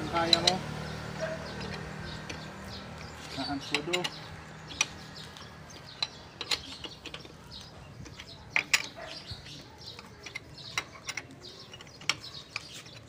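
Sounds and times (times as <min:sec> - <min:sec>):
lug wrench clinking on nuts: 0:00.0 - 0:13.0.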